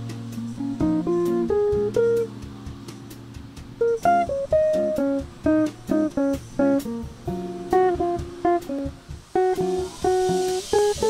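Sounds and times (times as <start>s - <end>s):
light beat: 0.0s - 11.0s
plucked guitar melody: 0.0s - 11.0s.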